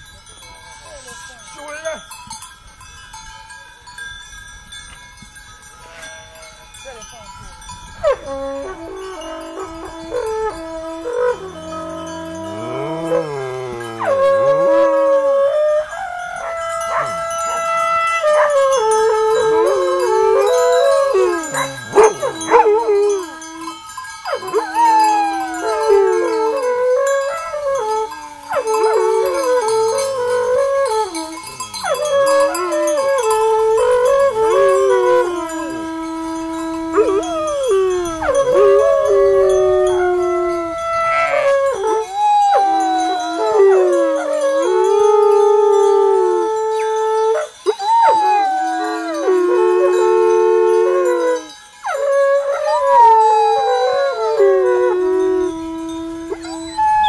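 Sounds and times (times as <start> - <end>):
dogs howling: 8.0 - 57.0
long horn holding notes: 8.1 - 57.0.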